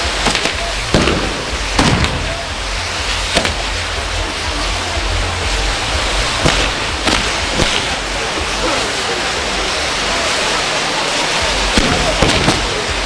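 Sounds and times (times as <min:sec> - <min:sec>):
fireworks cracking: 0:00.0 - 0:13.0
fireworks hissing: 0:00.0 - 0:13.0.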